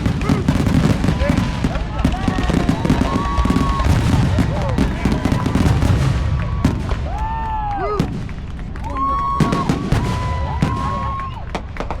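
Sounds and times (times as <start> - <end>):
fireworks bangs: 0.0 - 12.0
whistling fireworks: 0.0 - 12.0.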